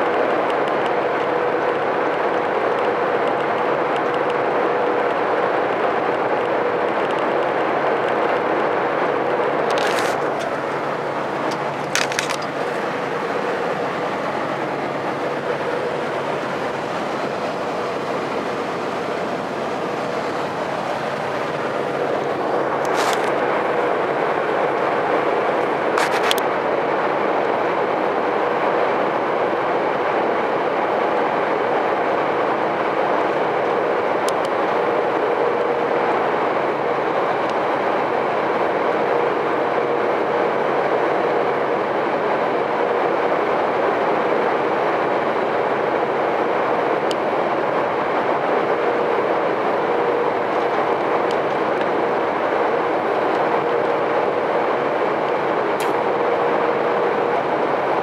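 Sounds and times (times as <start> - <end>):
droning hum: 0.0 - 58.0
lorry engine and road noise: 0.0 - 58.0.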